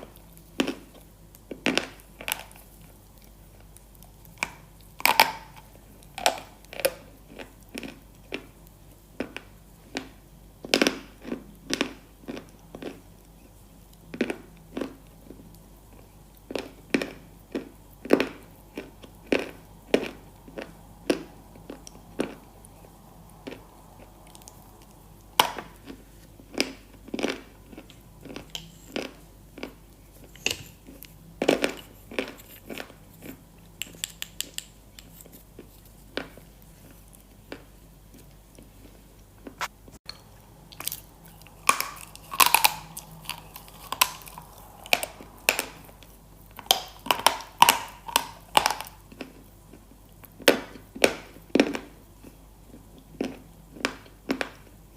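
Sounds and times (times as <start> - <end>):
crunchy chewing: 0.0 - 39.7, 40.7 - 54.8.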